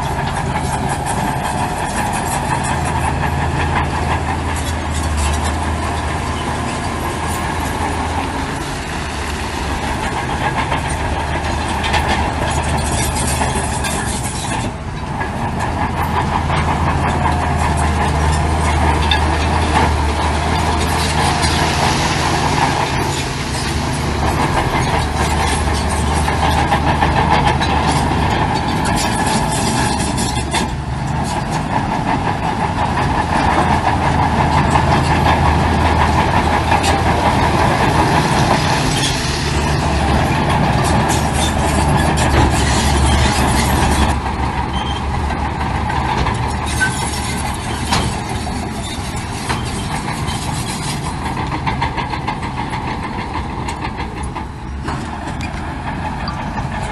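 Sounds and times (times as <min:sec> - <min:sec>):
diesel earthmoving machinery: 0:00.0 - 0:56.9.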